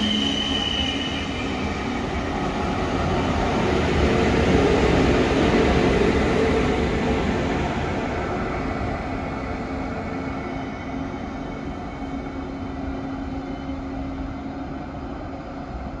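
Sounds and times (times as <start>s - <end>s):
train rolling along track: 0.0s - 16.0s.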